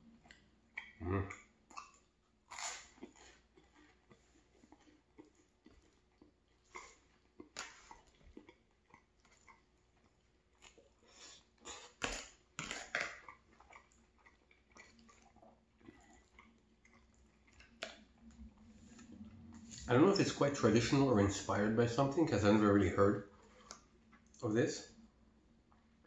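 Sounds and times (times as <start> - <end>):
person chewing food: 0.0 - 19.9, 23.3 - 24.4.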